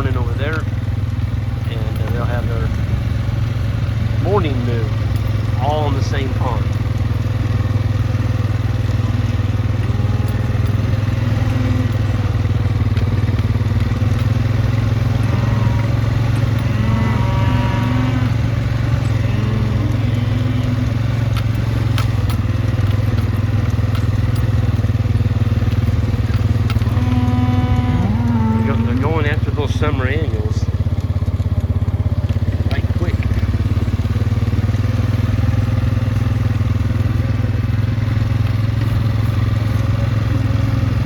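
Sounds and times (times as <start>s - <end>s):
small vehicle engine humming: 0.0s - 41.0s.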